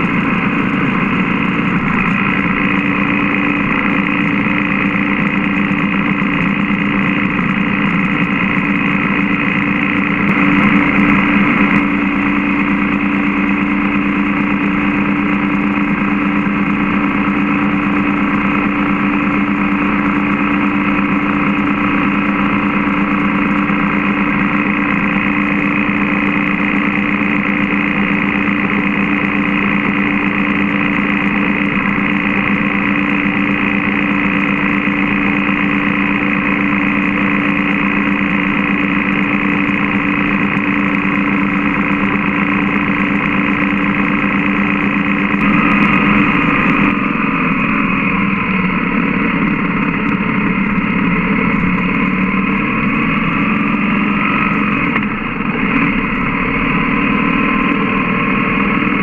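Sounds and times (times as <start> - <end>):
motorcycle engine running: 0.0 - 59.0
road noise: 0.0 - 59.0.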